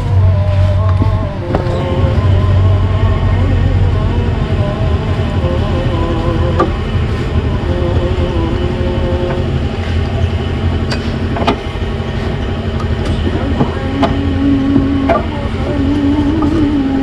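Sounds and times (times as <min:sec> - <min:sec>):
droning tone: 0:00.0 - 0:17.0
low rumble: 0:00.0 - 0:17.0.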